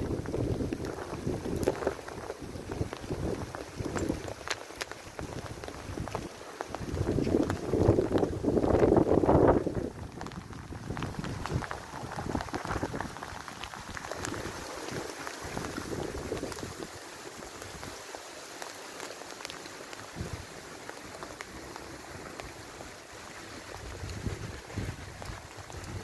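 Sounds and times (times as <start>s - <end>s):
hail and rain on pavement: 0.0s - 26.0s.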